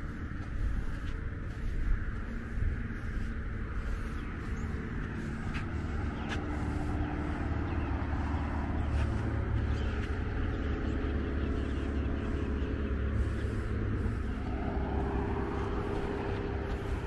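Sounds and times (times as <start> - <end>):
birds chirping: 0.0 - 17.0
road traffic rumble: 0.0 - 17.0.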